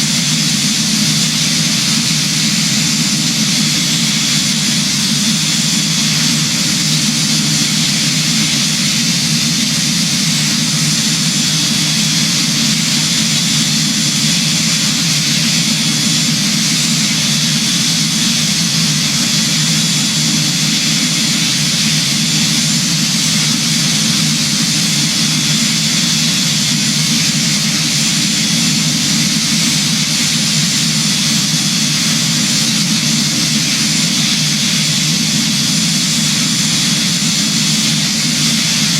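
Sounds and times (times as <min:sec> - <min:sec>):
jet engines and airflow: 0:00.0 - 0:38.9.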